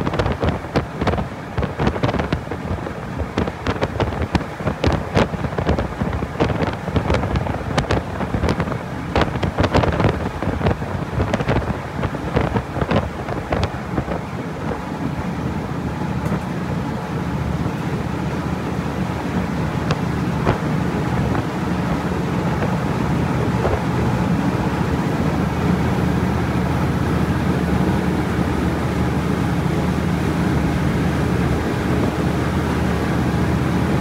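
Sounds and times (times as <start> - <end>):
boat wash: 0.0 - 34.0
ferry engines droning: 0.0 - 34.0
wind buffeting microphone: 0.0 - 34.0.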